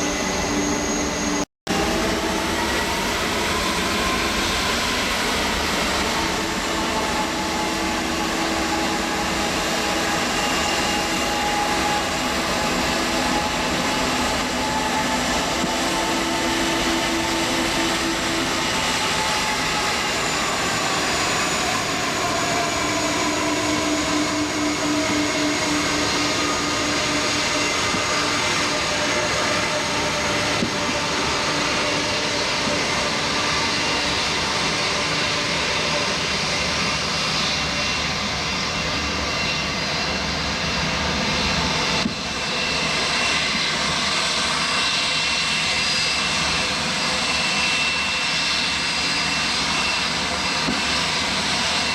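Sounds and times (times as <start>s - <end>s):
jet engines roaring: 0.0s - 51.9s.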